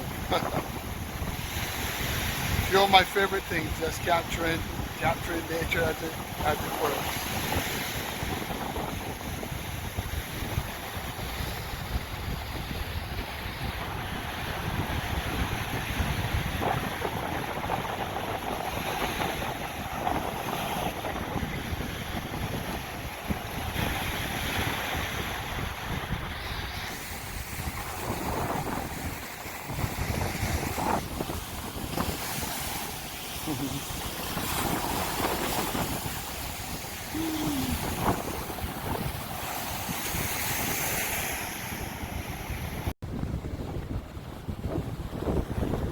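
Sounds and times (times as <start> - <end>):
waves breaking on beach: 0.0 - 45.9
wind buffeting microphone: 0.0 - 45.9.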